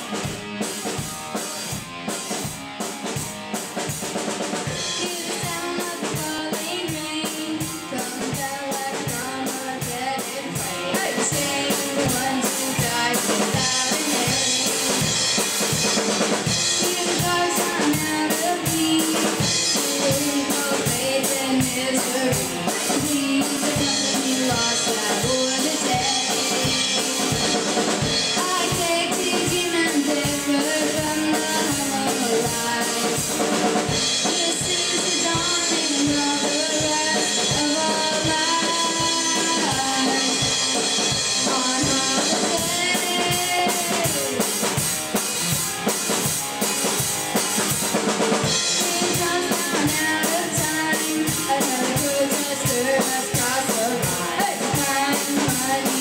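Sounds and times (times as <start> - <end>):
drum kit beat: 0.0 - 56.0
electric guitar: 0.0 - 56.0
person singing: 4.6 - 46.2, 48.4 - 56.0.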